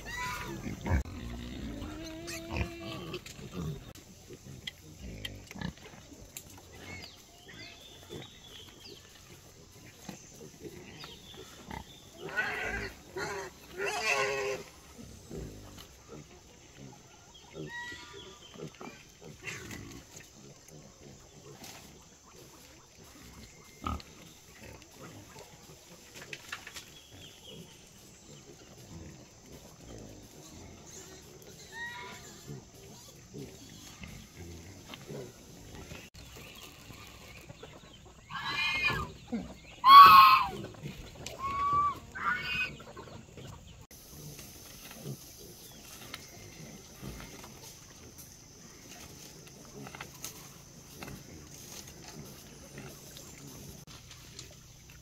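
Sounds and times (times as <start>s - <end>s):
pigs grunting and squealing: 0.0s - 26.5s, 27.2s - 53.8s.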